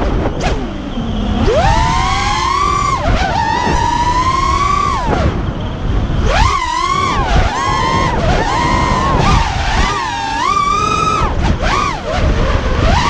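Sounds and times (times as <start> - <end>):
drone motors whining: 0.0 - 13.0
rough rushing noise: 0.0 - 13.0.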